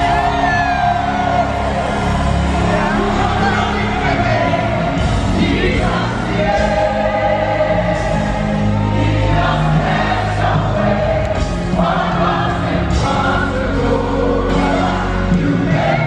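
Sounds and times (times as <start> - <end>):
gospel choir singing: 0.0 - 16.0
steady low bass: 0.0 - 16.0.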